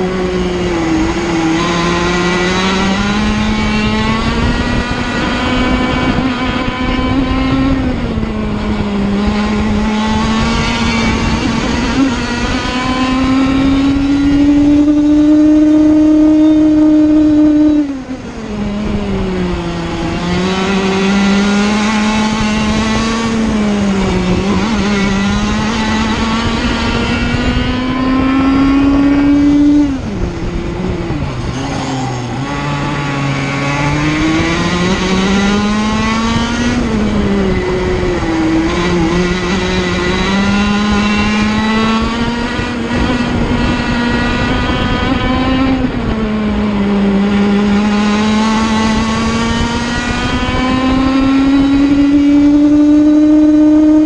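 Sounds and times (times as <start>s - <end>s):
kart engine at race speed: 0.0s - 54.0s.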